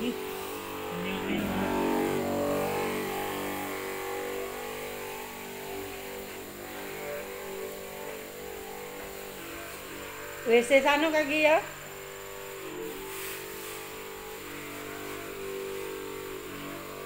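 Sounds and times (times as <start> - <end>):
spray misting: 0.0 - 17.0
sprayer pump motor humming: 0.0 - 17.0.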